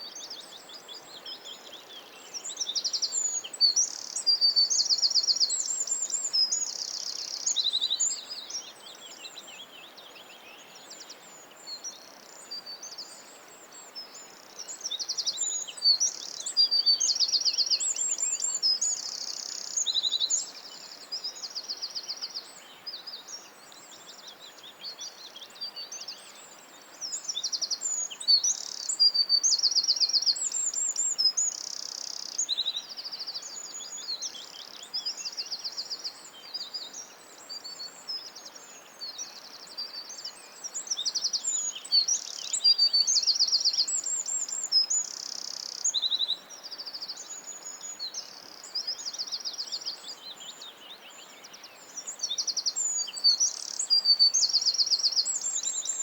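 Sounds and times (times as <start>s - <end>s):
faint steady hiss: 0.0s - 56.0s
songbirds singing: 0.0s - 56.0s.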